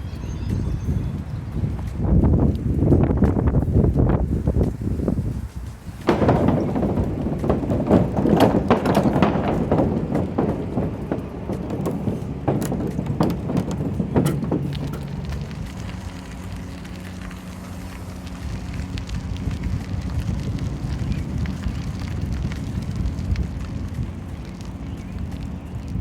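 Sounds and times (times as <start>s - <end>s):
bicycle tyres crunching on gravel: 0.0s - 26.0s.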